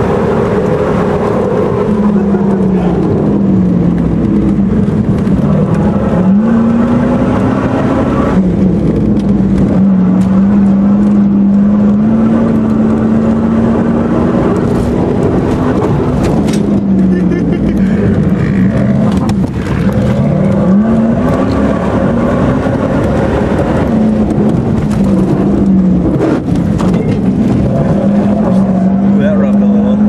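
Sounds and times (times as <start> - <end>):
rough rushing noise: 0.0 - 30.0
vehicle engine droning: 0.0 - 30.0.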